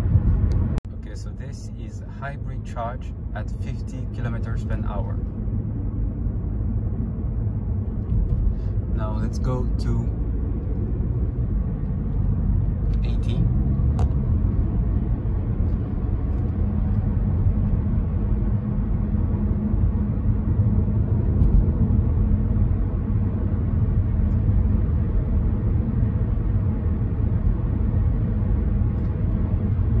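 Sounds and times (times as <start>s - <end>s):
car engine low rumble: 0.0s - 30.0s
road and tyre noise: 0.0s - 30.0s.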